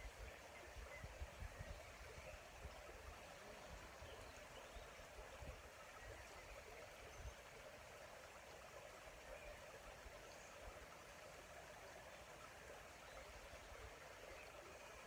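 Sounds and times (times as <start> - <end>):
creek running over stones: 0.0 - 15.0.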